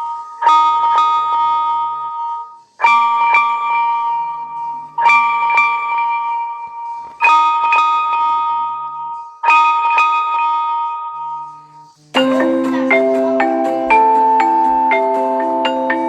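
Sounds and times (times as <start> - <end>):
bell-like phone ringtone: 0.0 - 16.0
marimba-like ringtone melody: 0.0 - 16.0.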